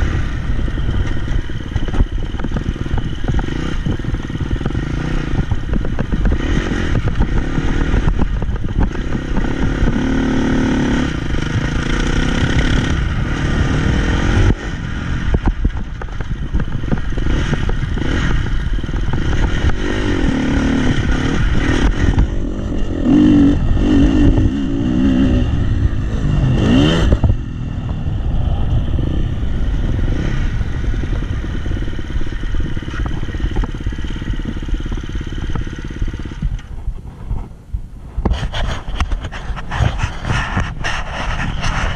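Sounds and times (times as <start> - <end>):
dirt bike engine revving: 0.0 - 36.7
wind on microphone: 0.0 - 41.9.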